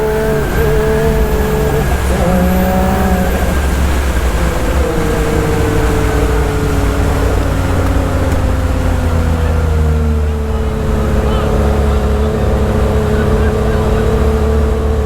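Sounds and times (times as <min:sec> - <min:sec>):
engine running hard: 0:00.0 - 0:15.0.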